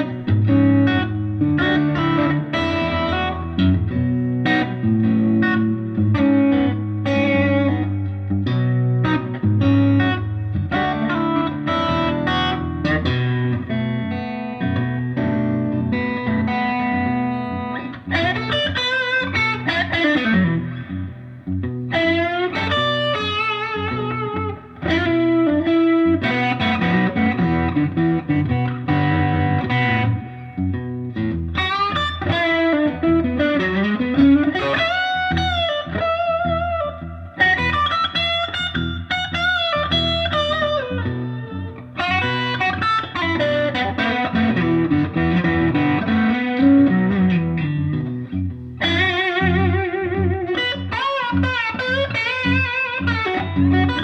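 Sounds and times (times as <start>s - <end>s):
looped rhythm guitar: 0.0s - 54.0s
overdriven electric guitar blues lead: 0.0s - 54.0s.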